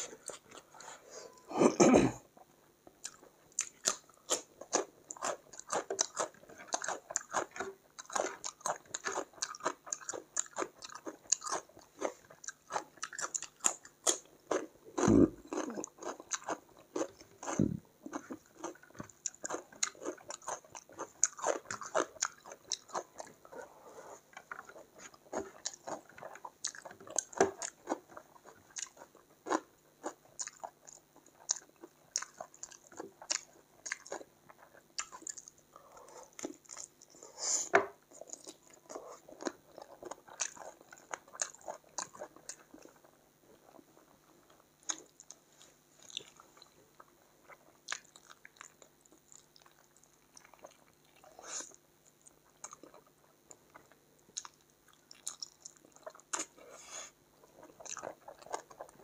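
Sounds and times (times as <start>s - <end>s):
chewing and crunching food: 0.0s - 1.5s, 2.3s - 59.0s.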